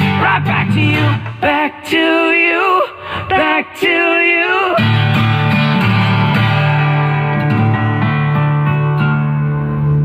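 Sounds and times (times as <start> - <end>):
strummed guitar chords: 0.0 - 10.0.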